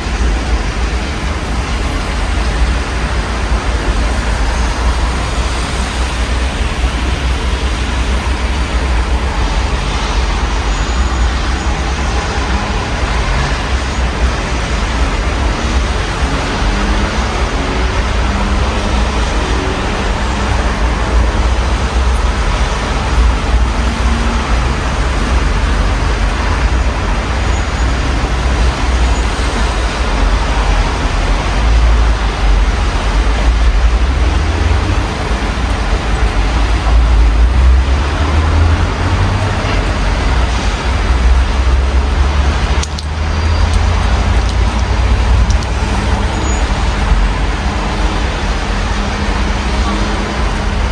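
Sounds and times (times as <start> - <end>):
city traffic rumble: 0.0 - 50.9
steady rain hiss: 0.0 - 50.9.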